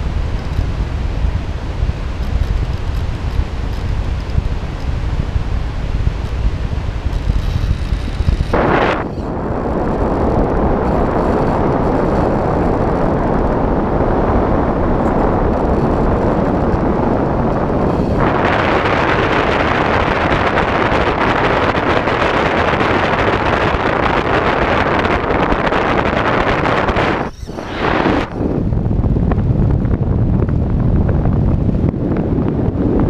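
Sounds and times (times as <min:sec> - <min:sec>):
rushing wind: 0:00.0 - 0:33.0.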